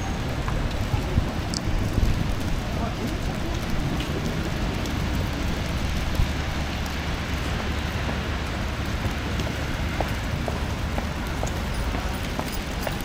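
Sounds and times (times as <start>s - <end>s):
hiss of falling snow and slush: 0.0s - 13.0s
low rumble of traffic: 0.0s - 13.0s
wind: 0.0s - 13.0s.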